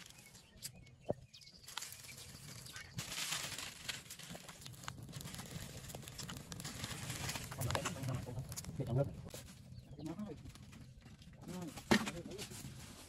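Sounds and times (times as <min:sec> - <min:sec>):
small fire crackling and hissing: 0:00.0 - 0:13.0.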